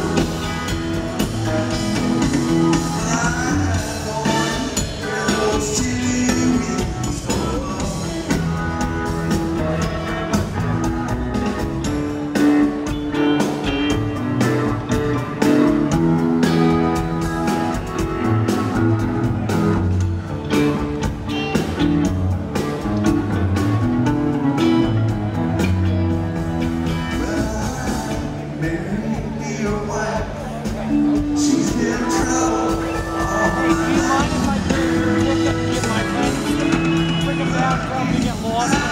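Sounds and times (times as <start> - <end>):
drum kit beat: 0.0 - 38.9
electric bass: 0.0 - 38.9
electric guitars: 0.0 - 38.9.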